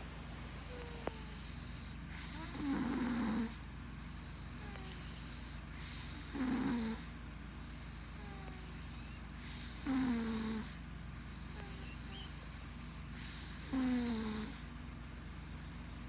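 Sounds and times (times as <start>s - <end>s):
short nasal snores: 0.2s - 14.7s.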